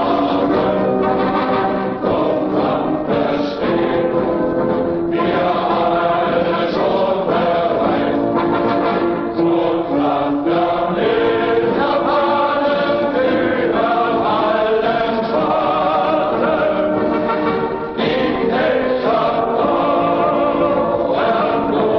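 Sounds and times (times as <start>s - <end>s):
choir singing long notes: 0.0s - 21.9s
musical accompaniment: 0.0s - 21.9s.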